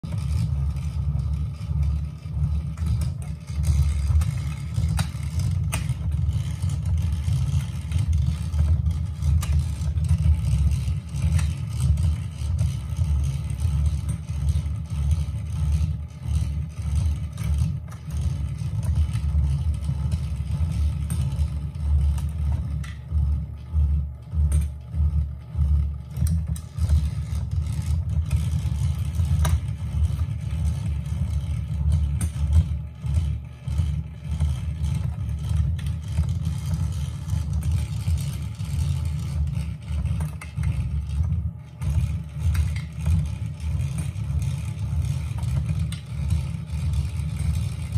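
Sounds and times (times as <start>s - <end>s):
toy motor and gears rumbling: 0.0s - 47.9s.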